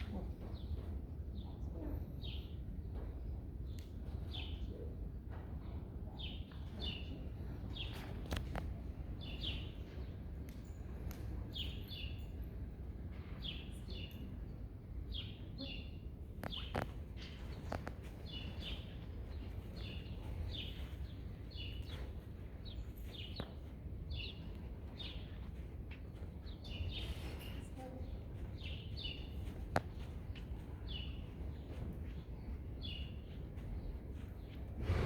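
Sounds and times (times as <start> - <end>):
small birds chirping: 6.1 - 35.0.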